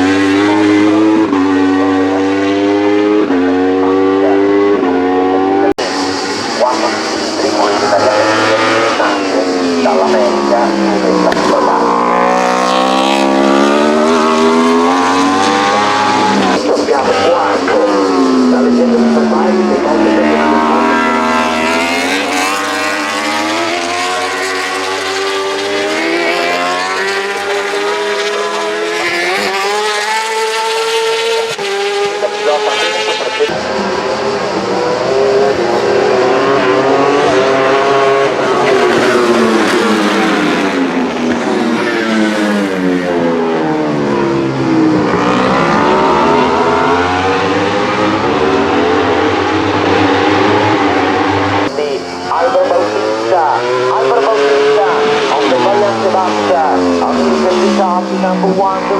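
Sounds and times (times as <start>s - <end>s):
motorcycle engine revving high: 0.0s - 58.9s.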